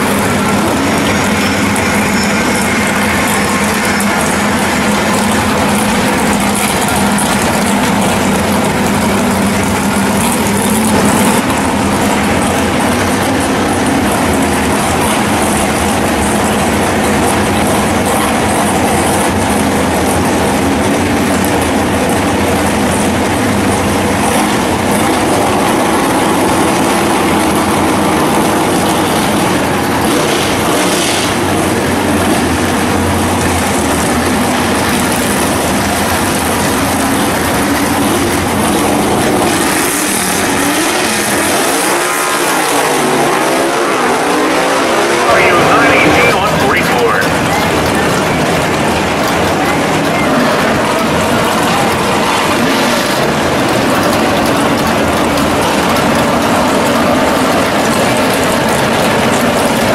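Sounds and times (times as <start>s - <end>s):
loud car engine idling: 0.0s - 59.9s.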